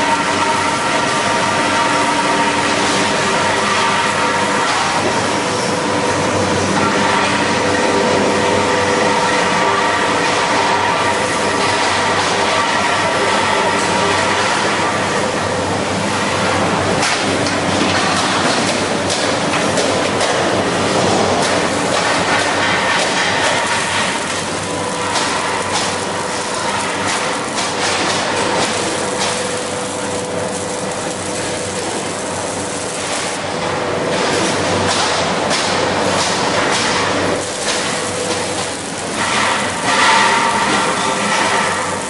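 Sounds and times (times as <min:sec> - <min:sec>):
arc welder crackling: 0:00.0 - 0:42.0
steady hum: 0:00.0 - 0:42.0.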